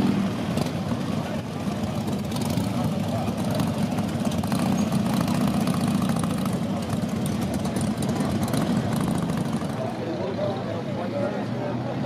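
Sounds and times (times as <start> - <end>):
motorcycles idling: 0.0 - 12.0.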